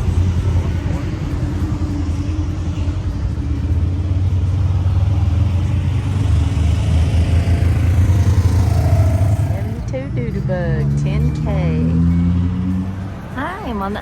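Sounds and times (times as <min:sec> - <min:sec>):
car traffic rumble: 0:00.0 - 0:14.0.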